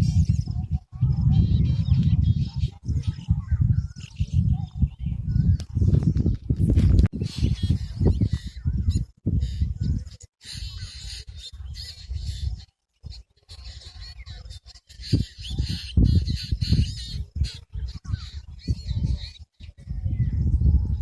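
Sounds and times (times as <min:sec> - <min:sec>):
birds chirping and warbling: 0:00.0 - 0:21.0.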